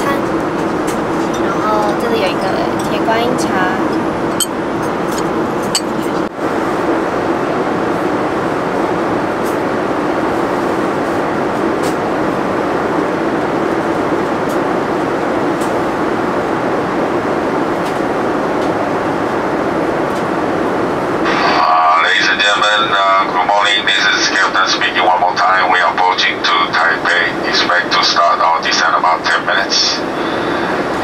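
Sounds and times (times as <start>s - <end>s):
jet cabin rush: 0.0s - 31.0s.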